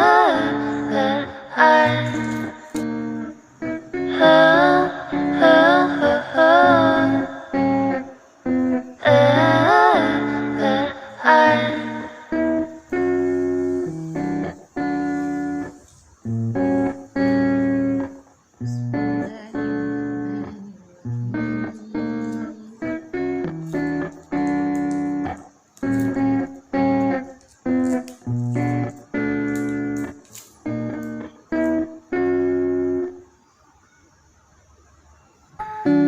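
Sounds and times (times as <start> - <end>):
pop music guitar chords: 0.0 - 33.2.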